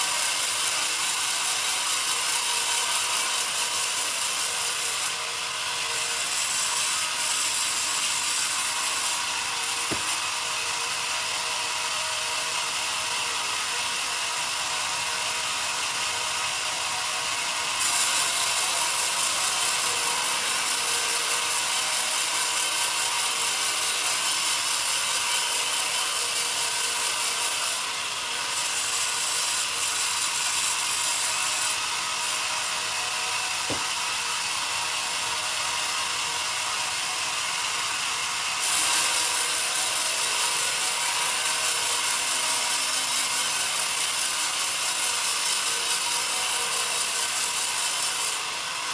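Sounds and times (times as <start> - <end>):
band saw cutting log: 0.0 - 48.9.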